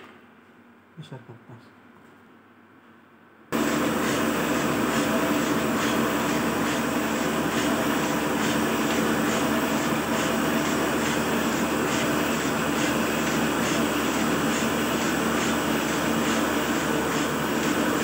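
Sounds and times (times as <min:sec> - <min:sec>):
printing press clattering: 0:03.6 - 0:18.0.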